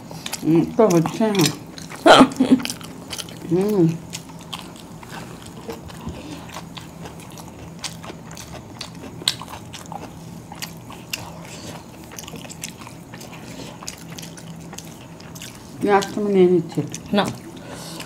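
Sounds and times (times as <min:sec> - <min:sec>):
faint steady hum: 0:00.0 - 0:18.0
people chewing food: 0:00.0 - 0:18.0.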